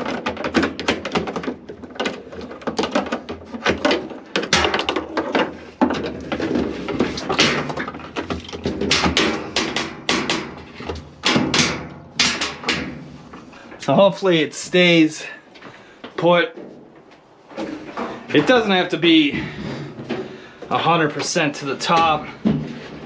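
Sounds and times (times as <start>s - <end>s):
clicks knocks and scraping: 0.0s - 14.0s, 15.6s - 23.0s.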